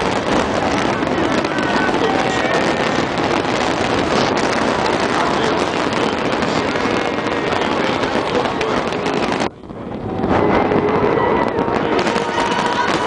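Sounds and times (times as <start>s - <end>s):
fireworks pops and bangs: 0.0s - 13.0s.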